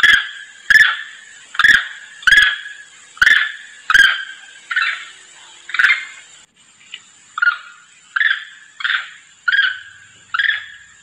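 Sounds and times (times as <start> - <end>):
monkey harsh calls: 0.0 - 6.2, 7.4 - 11.0.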